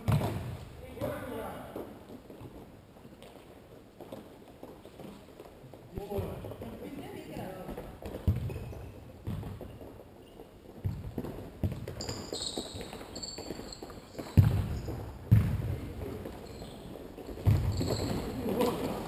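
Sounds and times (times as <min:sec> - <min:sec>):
ball kicked and bouncing indoors: 0:00.0 - 0:19.0
sports shoes squeaking: 0:00.1 - 0:19.0.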